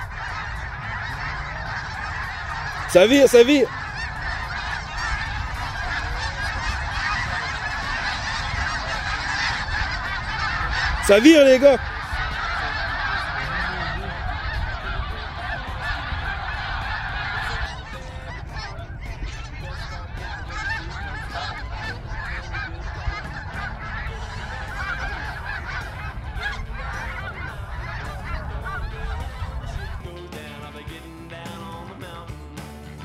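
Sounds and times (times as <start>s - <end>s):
geese honking: 0.0s - 33.0s.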